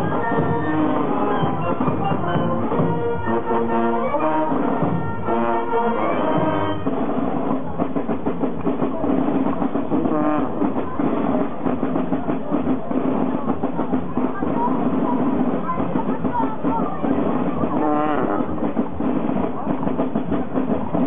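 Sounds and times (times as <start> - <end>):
brass band playing: 0.0 - 21.0
steady drum beat: 0.0 - 21.0.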